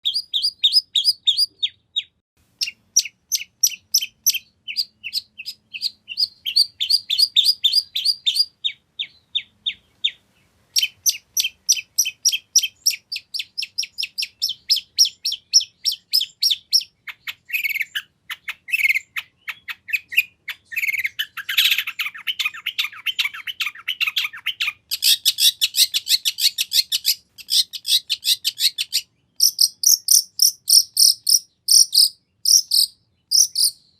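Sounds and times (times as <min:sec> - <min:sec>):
bird chattering: 0:00.0 - 0:33.9.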